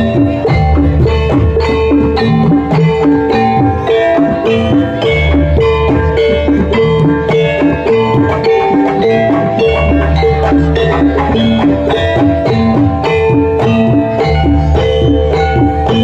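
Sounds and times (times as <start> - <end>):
drums: 0.0 - 16.0
gamelan music: 0.0 - 16.0.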